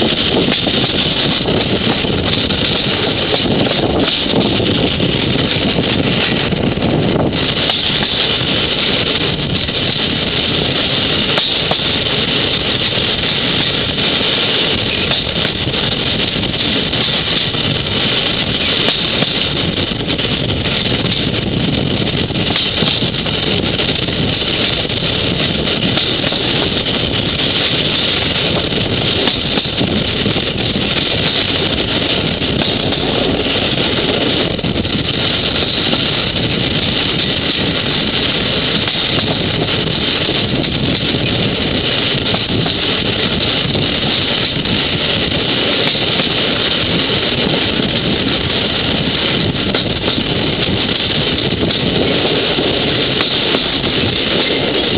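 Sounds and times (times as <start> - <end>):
vehicle running noise: 0.0 - 54.9.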